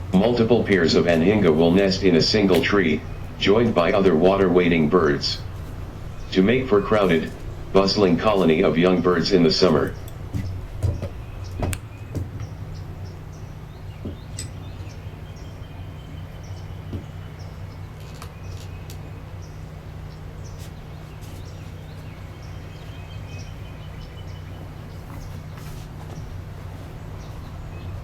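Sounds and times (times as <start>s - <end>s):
steady low rumble: 0.0s - 18.0s, 19.0s - 28.0s
bird chirps and calls: 0.0s - 28.0s.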